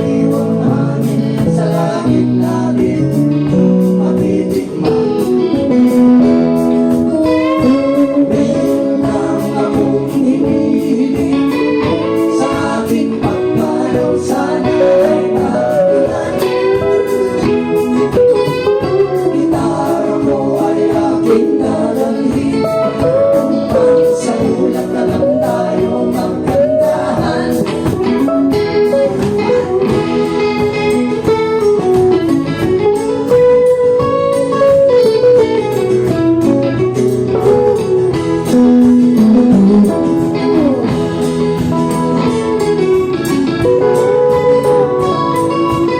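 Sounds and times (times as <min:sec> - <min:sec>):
folk band playing guitars: 0:00.0 - 0:45.9.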